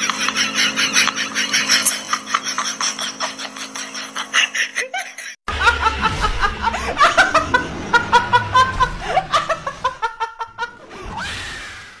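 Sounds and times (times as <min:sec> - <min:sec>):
young woman laughing hard: 0:00.2 - 0:10.8.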